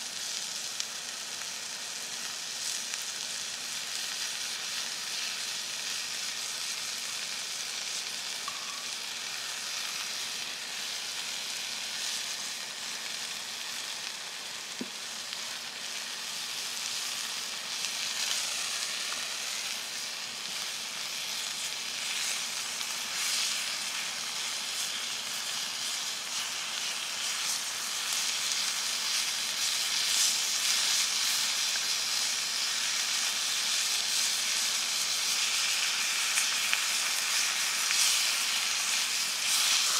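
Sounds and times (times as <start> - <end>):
meat sizzling in a skillet: 0.0 - 39.9.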